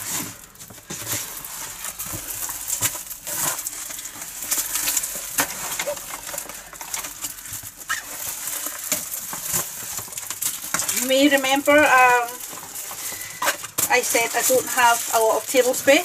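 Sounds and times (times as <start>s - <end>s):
plastic sheet rustling and crinkling: 0.0s - 16.0s.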